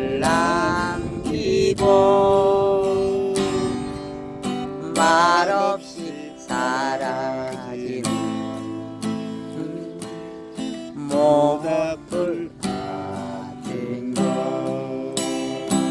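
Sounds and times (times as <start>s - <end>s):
strummed acoustic guitar: 0.0s - 15.9s.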